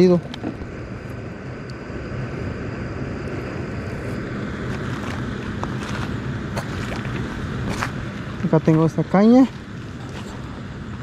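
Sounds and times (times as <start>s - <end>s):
low rumble with faint hum: 0.0s - 11.0s.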